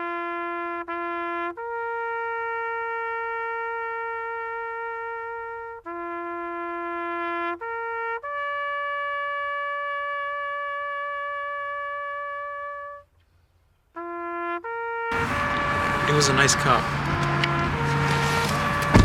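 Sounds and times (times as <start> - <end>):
long trumpet-like notes: 0.0 - 13.1, 13.9 - 19.0.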